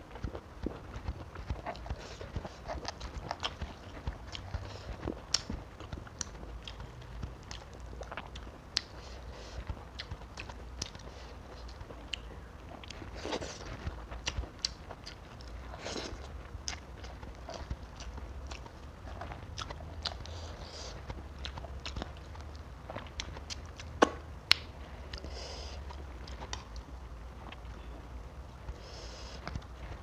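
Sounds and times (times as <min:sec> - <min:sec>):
chewing and crunching fish: 0:00.0 - 0:25.3.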